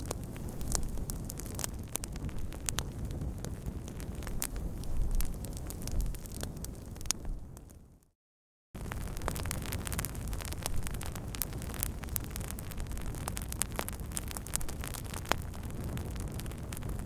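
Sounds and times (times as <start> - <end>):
wood fire crackling: 0.0 - 8.1, 8.8 - 17.0.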